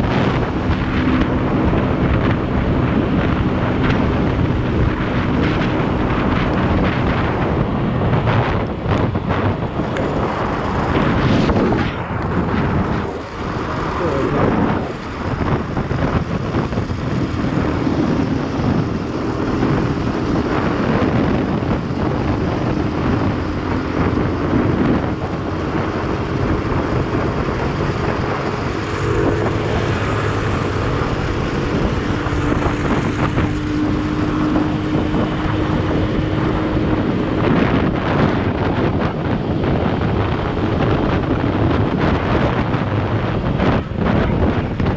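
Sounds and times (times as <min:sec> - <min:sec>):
motorcycle engine: 0:00.0 - 0:44.9
wind buffeting microphone: 0:00.0 - 0:44.9.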